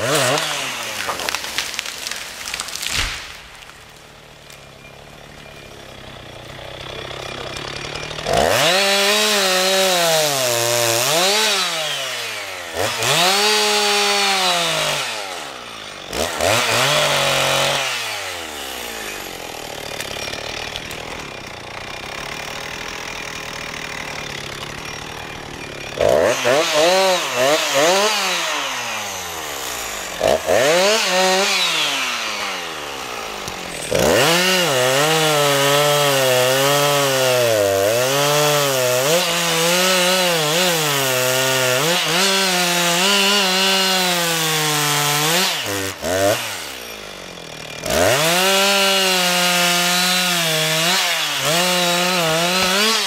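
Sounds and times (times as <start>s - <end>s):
chainsaw cutting through log: 0.0s - 53.0s
chainsaw revving: 0.0s - 53.0s.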